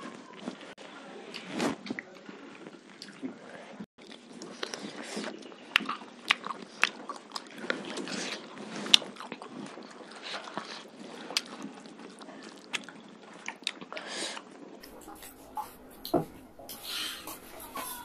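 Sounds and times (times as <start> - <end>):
people chewing and crunching: 0.0 - 18.0.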